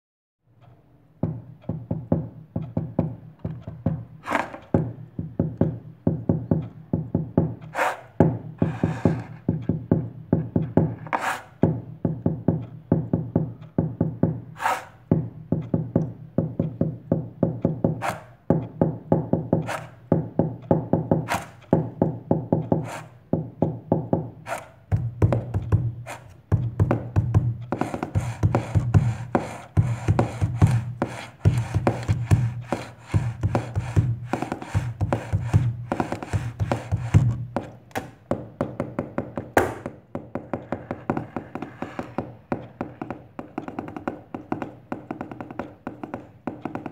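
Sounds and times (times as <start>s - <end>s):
hands drumming on tabletop: 1.2s - 46.9s.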